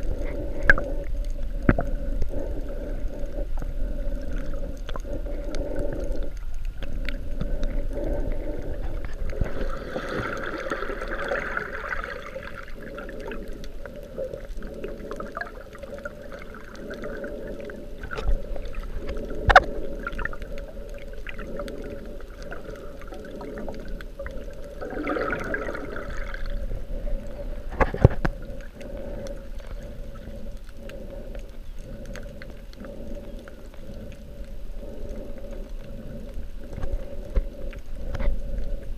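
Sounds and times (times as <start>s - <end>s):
muffled underwater gurgling: 0.0s - 38.9s
rushing water: 0.0s - 38.9s.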